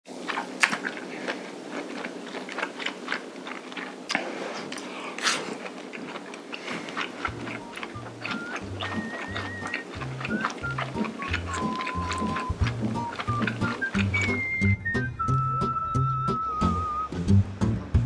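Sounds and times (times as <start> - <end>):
chewing and smacking: 0.1 - 14.8
wet mouth clicks: 0.2 - 14.8.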